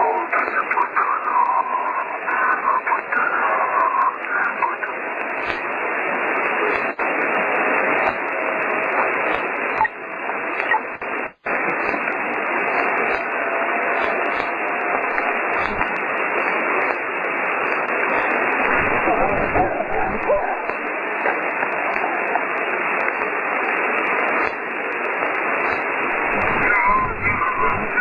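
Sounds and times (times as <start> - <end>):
radio static hiss: 0.0 - 28.0.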